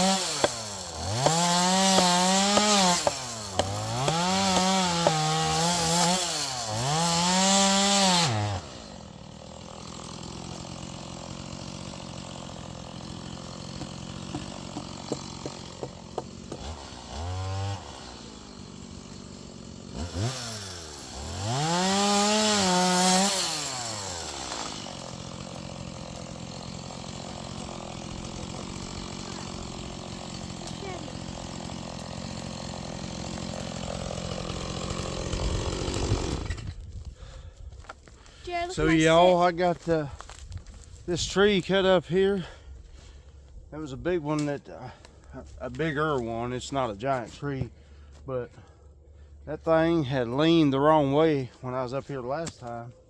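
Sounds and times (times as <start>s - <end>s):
chainsaw idling: 0.0s - 52.8s
chainsaw cutting wood: 0.0s - 53.0s.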